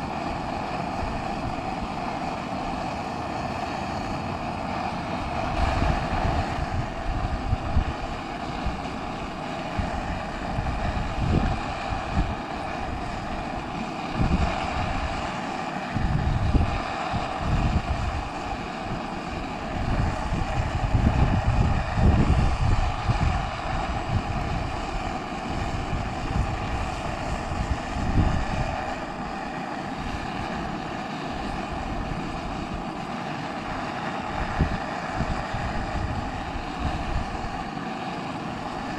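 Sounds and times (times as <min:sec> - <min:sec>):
gas stove burner hissing: 0:00.0 - 0:38.9
wind buffeting microphone: 0:03.9 - 0:37.9.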